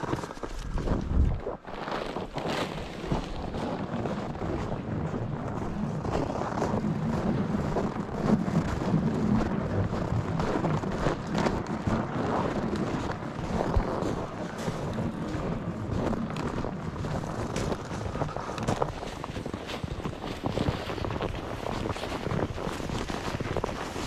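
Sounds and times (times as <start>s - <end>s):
travelling across snowy ice: 0.0s - 24.0s
wind on microphone: 0.0s - 24.0s.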